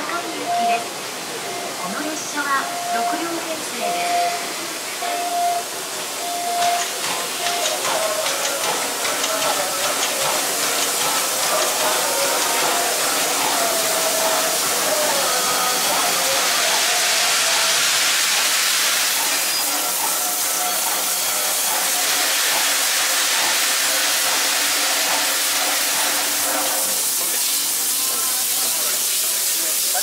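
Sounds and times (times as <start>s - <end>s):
steam locomotive venting steam: 0.1s - 30.0s.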